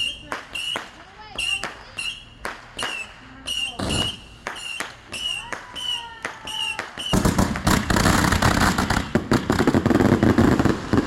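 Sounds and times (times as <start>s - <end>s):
fireworks bangs with high tone: 0.0s - 11.0s
fireworks crackling barrage: 0.0s - 11.0s.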